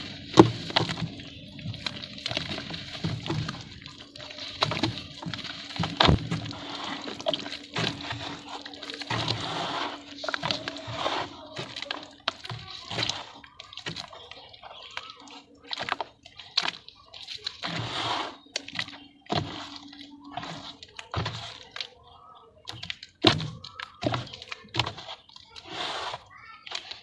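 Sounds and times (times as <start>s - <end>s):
water splashing: 0.0s - 27.0s
wet dirt crumbling: 0.0s - 27.0s.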